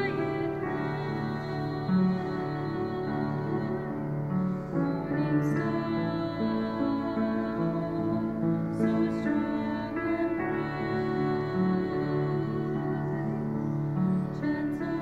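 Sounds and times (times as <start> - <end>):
soft instrumental accompaniment: 0.0 - 15.0
woman singing a hymn: 0.0 - 15.0.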